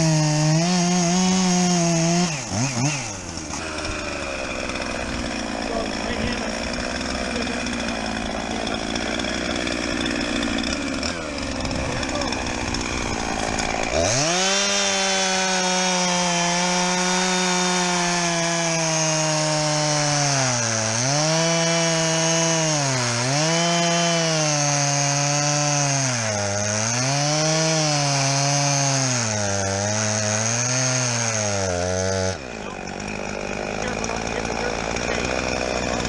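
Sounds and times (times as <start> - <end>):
chainsaw cutting through log: 0.0 - 36.0.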